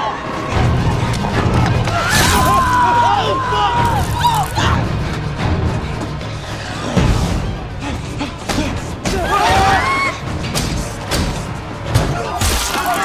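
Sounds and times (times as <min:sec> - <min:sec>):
dramatic score music: 0:00.0 - 0:13.0.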